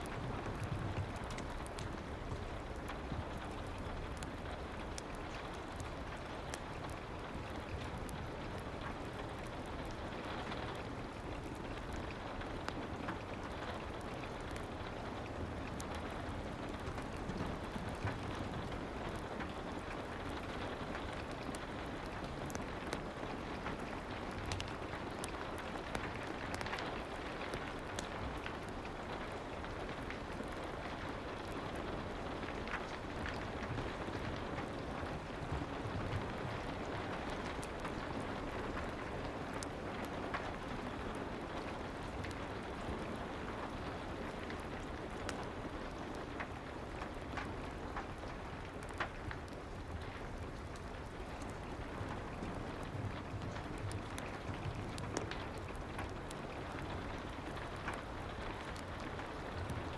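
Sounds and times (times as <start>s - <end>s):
fireplace crackling and popping: 0.0s - 59.9s
soft rain: 0.0s - 59.9s.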